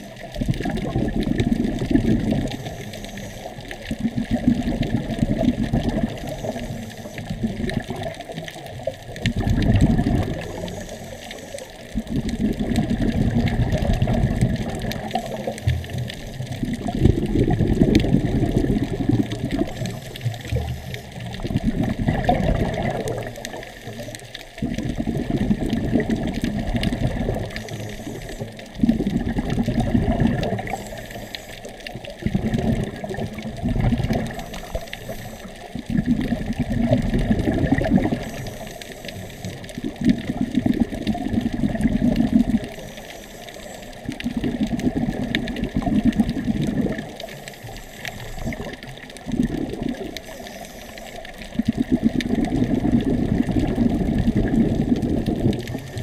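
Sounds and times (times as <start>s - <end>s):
muffled underwater rushing water: 0.0s - 56.0s.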